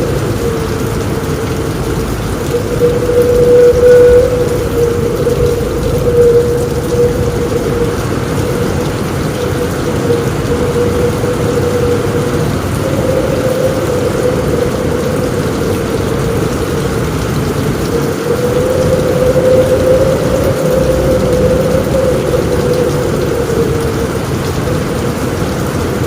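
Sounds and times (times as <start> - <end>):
heavy rain on a roof: 0.0 - 26.0
low rumble: 0.0 - 26.0
steady wavering tone: 0.0 - 26.0.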